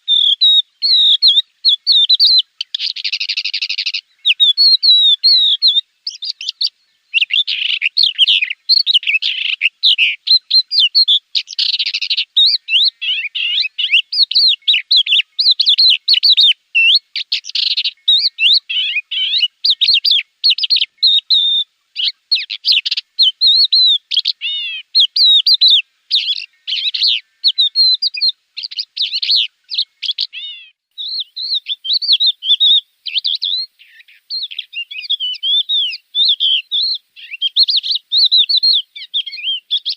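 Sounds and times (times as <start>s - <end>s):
bird singing high chirps and trills: 0.0s - 39.9s.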